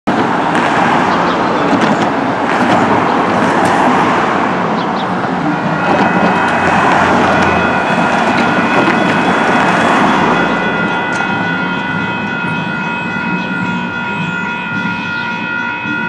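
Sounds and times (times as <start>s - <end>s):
crossing warning bells ringing: 0.1s - 16.0s
road traffic passing: 0.1s - 16.0s.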